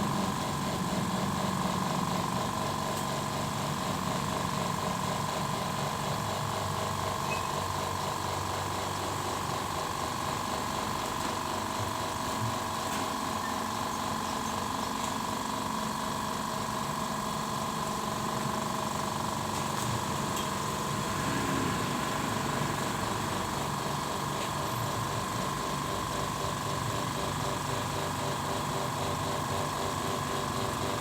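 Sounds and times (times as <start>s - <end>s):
air compressor running: 0.0s - 31.0s.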